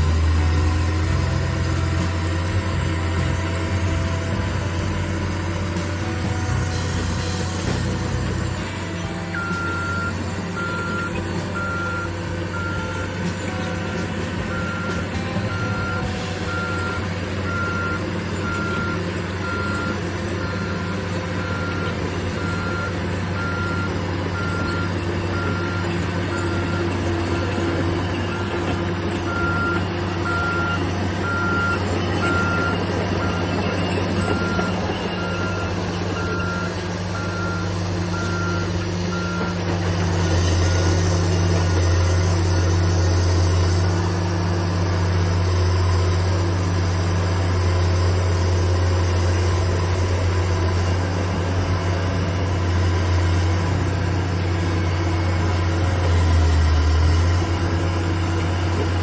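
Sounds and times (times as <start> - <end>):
backup alarm beeping: 0.0 - 27.6, 29.3 - 39.6, 49.6 - 59.0
bulldozer diesel engine running: 0.0 - 59.0.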